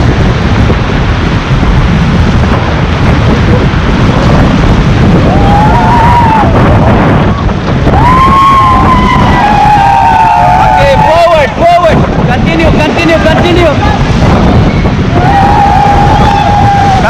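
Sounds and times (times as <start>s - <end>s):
whitewater rushing through rapid: 0.0s - 17.0s
wind buffeting microphone: 0.0s - 17.0s.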